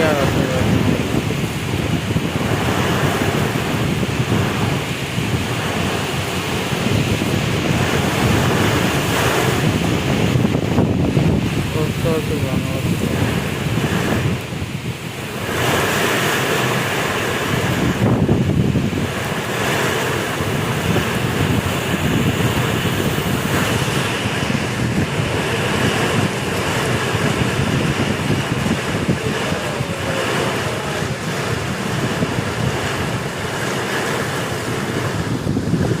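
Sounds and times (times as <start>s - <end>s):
storm wind on microphone: 0.0s - 36.0s.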